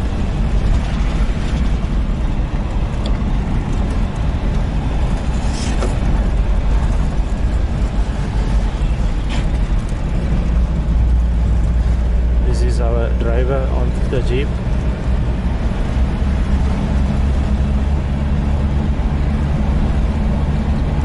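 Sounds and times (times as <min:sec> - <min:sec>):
jeep engine and road rumble: 0:00.0 - 0:21.0.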